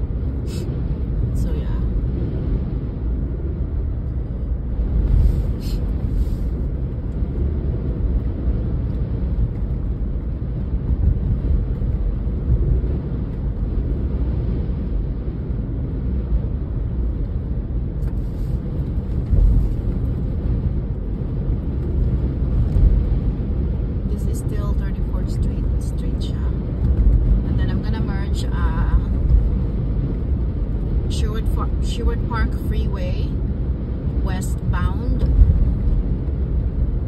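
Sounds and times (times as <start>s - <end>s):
car cabin road and engine rumble: 0.0s - 37.0s.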